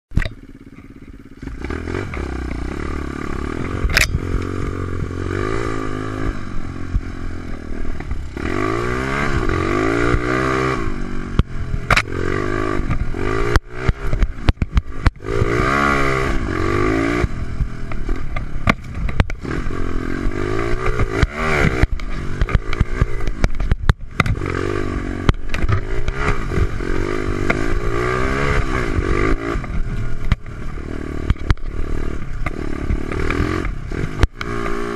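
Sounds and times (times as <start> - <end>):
motorbike engine revving: 0.1 - 34.9.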